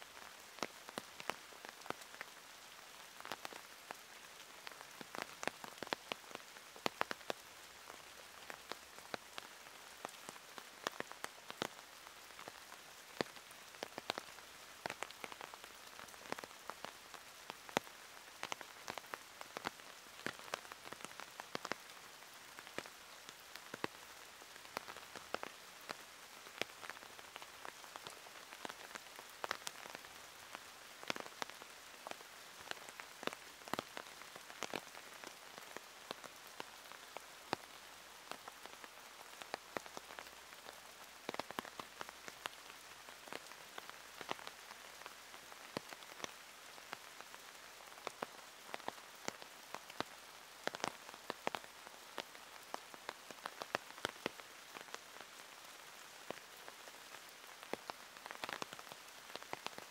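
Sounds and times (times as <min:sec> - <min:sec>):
raindrops clicking close by: 0:00.0 - 0:59.9
steady rain: 0:00.0 - 0:59.9.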